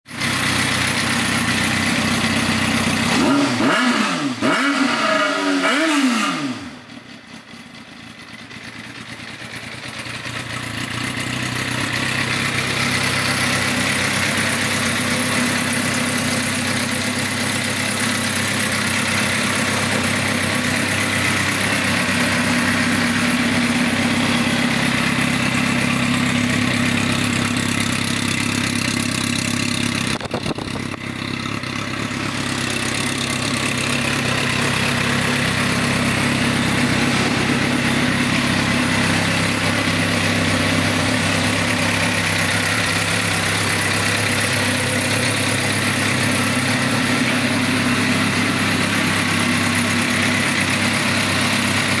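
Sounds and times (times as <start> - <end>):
motorcycle engine idling: 0.1 - 52.0
motorcycle engine revving: 0.1 - 52.0.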